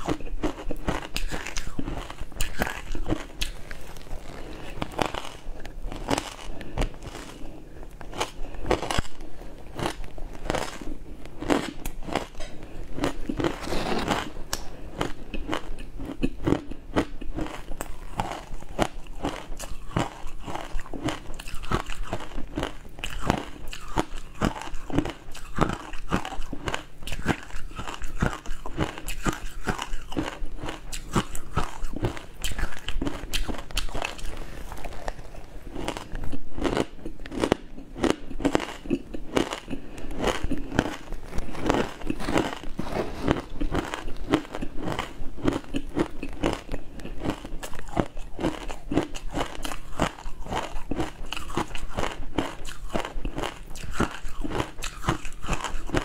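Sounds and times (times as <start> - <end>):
person chewing crunchy ice: 0.0 - 56.0.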